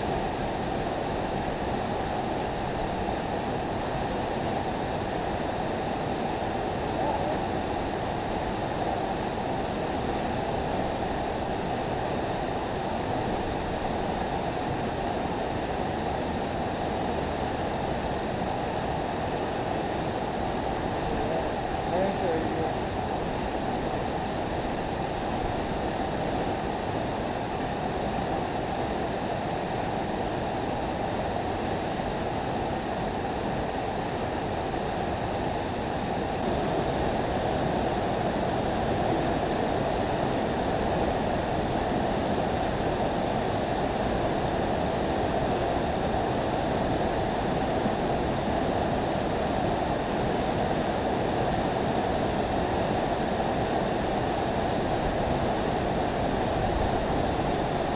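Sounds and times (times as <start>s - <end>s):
river water rushing over spillway: 0.0s - 57.9s.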